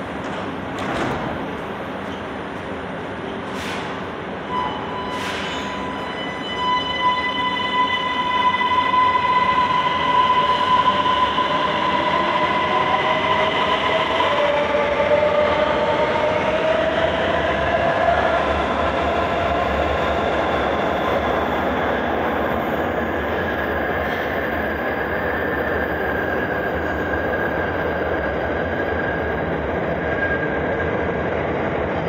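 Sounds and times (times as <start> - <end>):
metro train rumble: 0.0 - 32.0.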